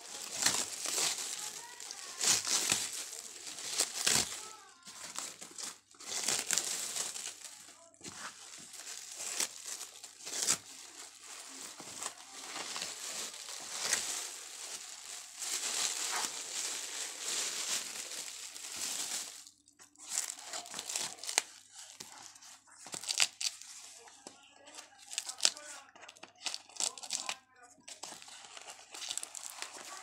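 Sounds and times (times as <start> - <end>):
plastic wrapping crinkling: 0.0 - 30.0.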